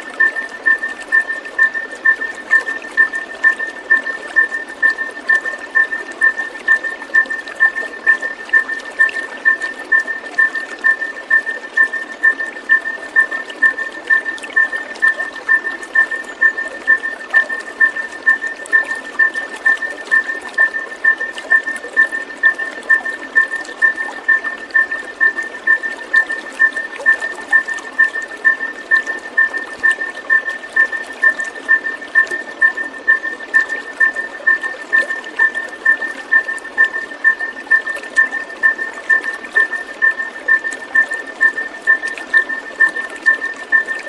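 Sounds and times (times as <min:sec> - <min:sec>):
running water: 0:00.0 - 0:44.0.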